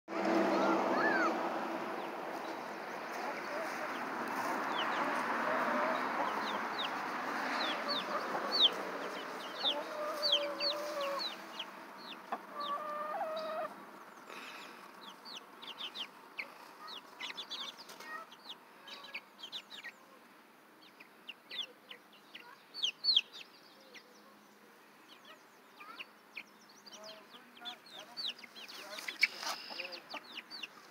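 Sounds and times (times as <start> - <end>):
chicks peeping: 0.3 - 20.2, 20.8 - 30.9.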